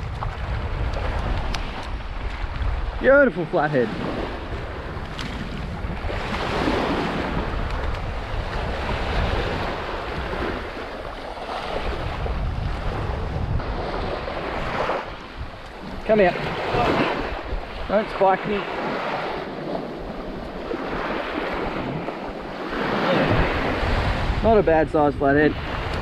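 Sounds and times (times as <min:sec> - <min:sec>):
small waves washing on sand: 0:00.0 - 0:26.0
wind buffeting microphone: 0:00.0 - 0:26.0.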